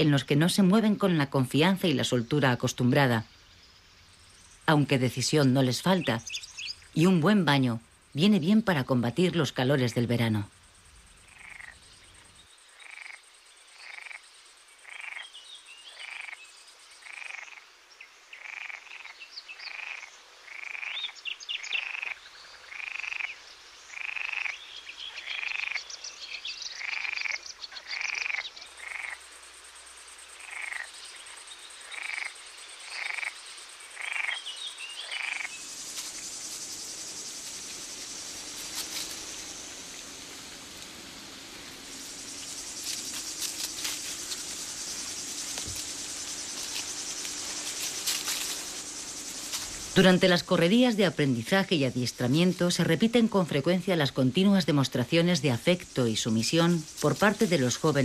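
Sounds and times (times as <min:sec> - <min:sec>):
frogs croaking: 0:00.0 - 0:58.0
steady background hiss: 0:00.0 - 0:58.0.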